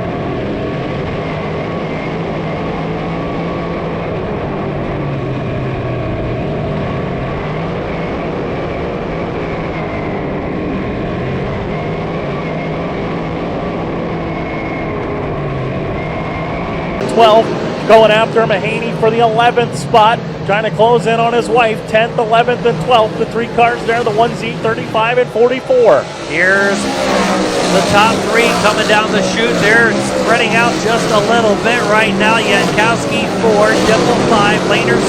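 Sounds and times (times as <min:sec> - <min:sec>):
race cars engine drone: 0:00.0 - 0:35.0.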